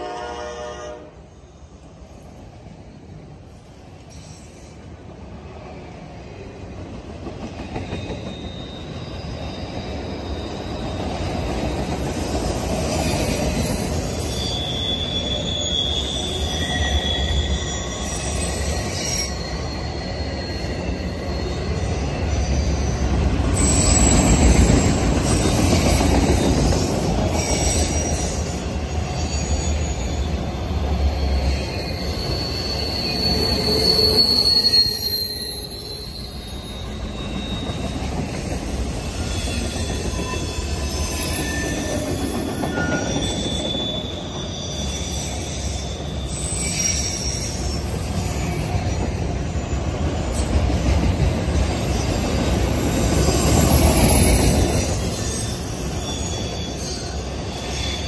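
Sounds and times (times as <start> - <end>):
train wheels rumbling on track: 0.0 - 58.0
high wheel squeals: 7.7 - 50.7, 51.3 - 58.0.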